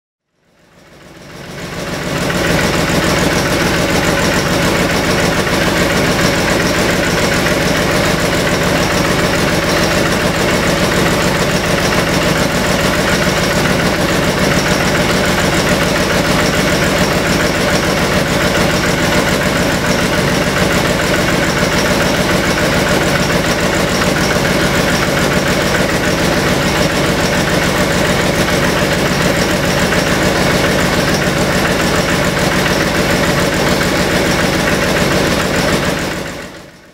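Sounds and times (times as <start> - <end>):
air compressor running: 0.4 - 36.9.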